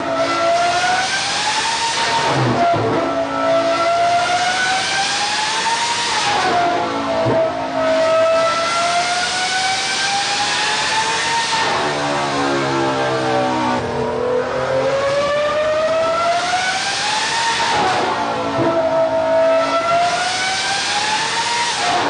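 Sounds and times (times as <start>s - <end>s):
car engine revving on a dyno: 0.0s - 22.0s.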